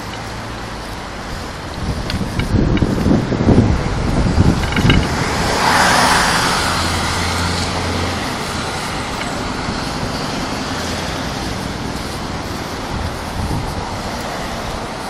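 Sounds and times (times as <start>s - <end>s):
continuous traffic hiss: 0.0s - 15.0s
low engine drone: 0.0s - 15.0s
vehicle passing close by: 1.3s - 15.0s.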